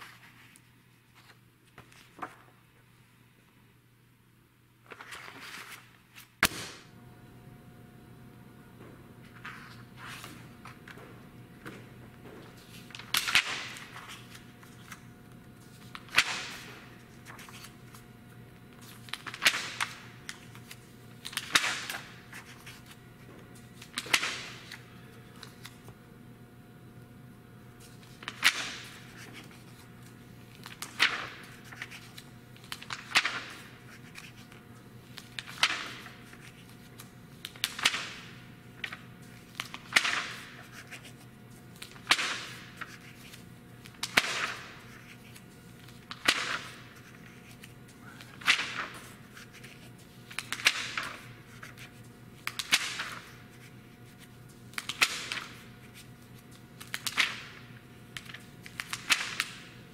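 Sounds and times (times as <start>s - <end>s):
magazine pages turning: 0.0s - 2.5s, 4.8s - 6.6s, 9.2s - 11.0s, 11.6s - 26.0s, 27.8s - 59.6s.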